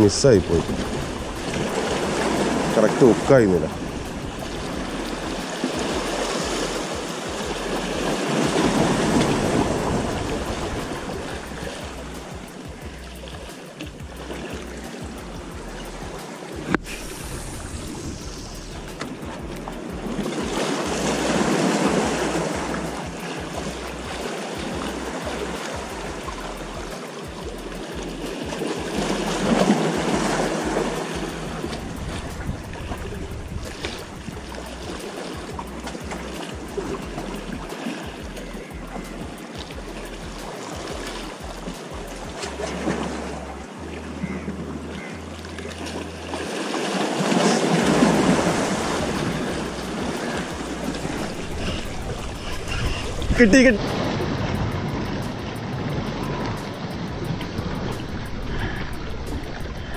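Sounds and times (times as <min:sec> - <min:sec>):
sea waves washing against rocks: 0:00.0 - 0:43.8, 0:45.5 - 0:59.9.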